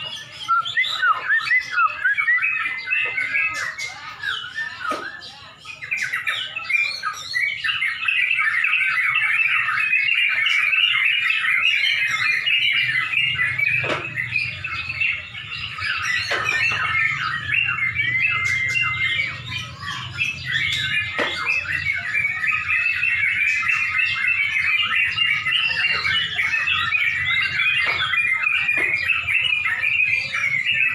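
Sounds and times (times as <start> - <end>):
bulbuls singing: 0.0 - 30.9.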